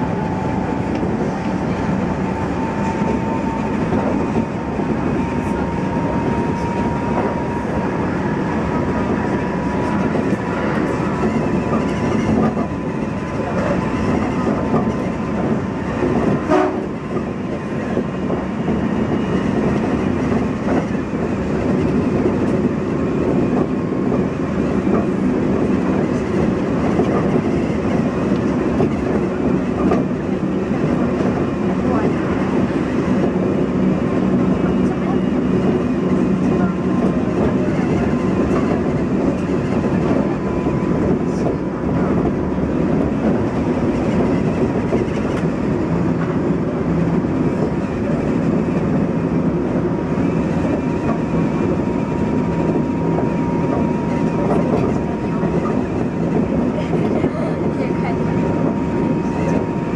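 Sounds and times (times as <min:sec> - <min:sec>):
train wheels rumbling on rail: 0:00.0 - 0:59.9
clickety-clack over rail joints: 0:00.1 - 0:59.9.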